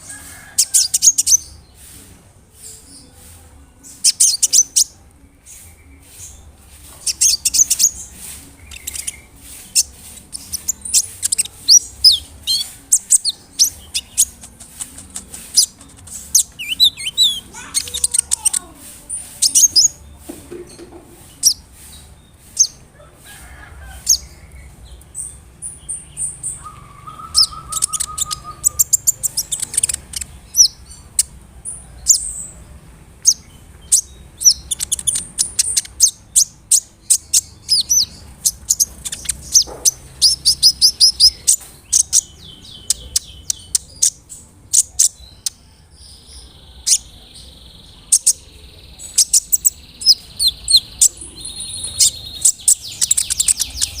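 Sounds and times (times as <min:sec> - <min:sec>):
sunbird chips and trills: 0:00.0 - 0:20.2, 0:23.4 - 0:32.5, 0:33.2 - 0:54.0.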